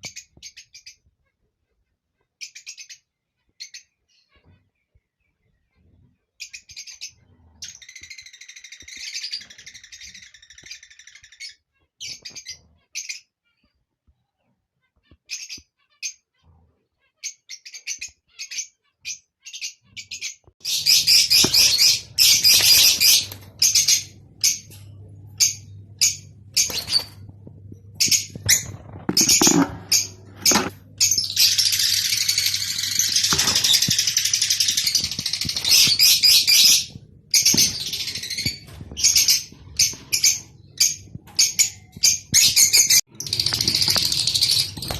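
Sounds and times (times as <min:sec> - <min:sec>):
lovebirds chirping and chattering: 0:00.0 - 0:44.9.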